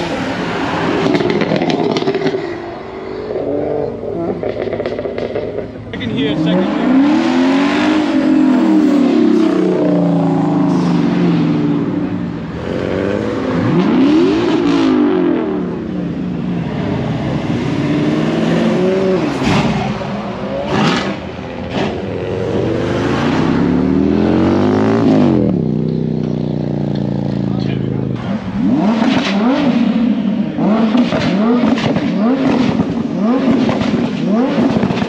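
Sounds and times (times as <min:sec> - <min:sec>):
cars revving past: 0:00.0 - 0:35.0.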